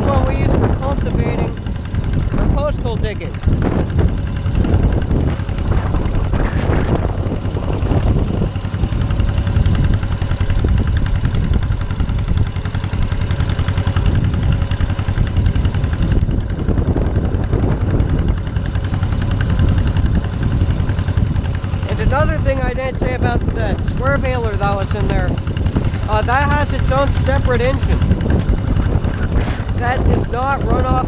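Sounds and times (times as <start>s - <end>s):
tractor engine chugging: 0.0s - 31.0s.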